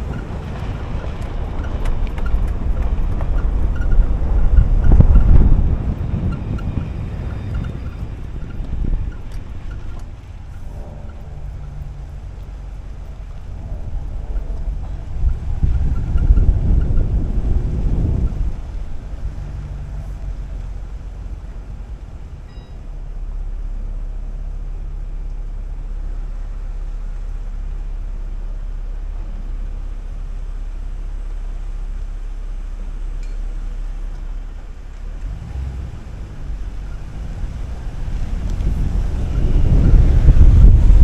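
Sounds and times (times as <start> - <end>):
engine and road hum: 0.0 - 41.0
vehicle driving rumble: 0.0 - 41.0.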